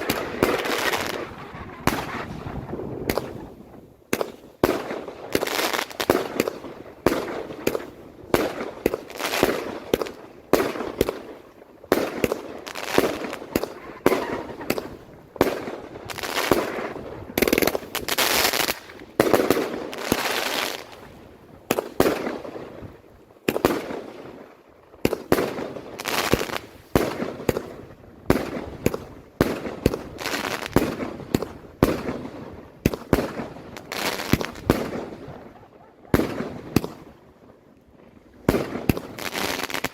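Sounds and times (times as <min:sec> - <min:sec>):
fireworks bangs with hiss: 0:00.0 - 0:37.2, 0:38.4 - 0:39.9.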